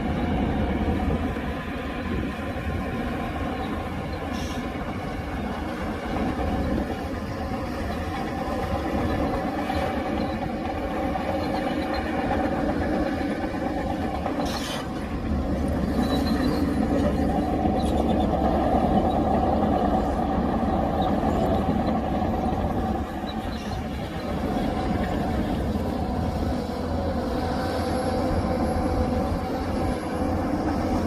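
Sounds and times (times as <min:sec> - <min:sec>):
heavy diesel engines rumbling: 0:00.0 - 0:31.0.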